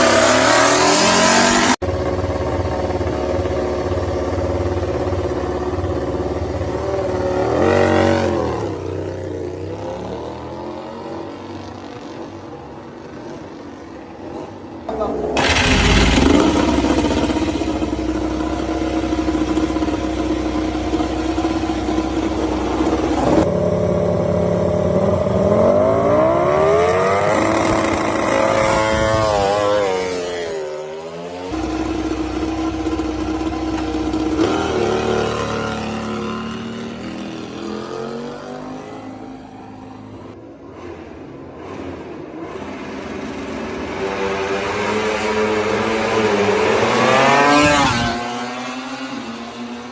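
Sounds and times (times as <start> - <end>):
racing motorcycle engines revving: 0.0 - 49.9.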